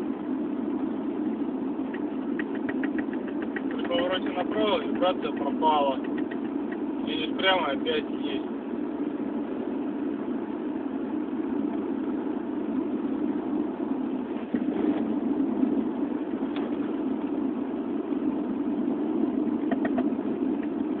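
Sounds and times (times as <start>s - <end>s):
car road noise from inside: 0.0s - 21.0s.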